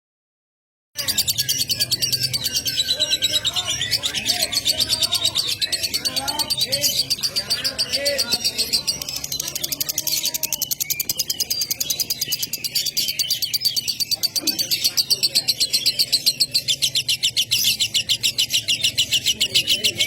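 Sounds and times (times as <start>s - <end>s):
small bird high chirps: 1.0s - 20.0s.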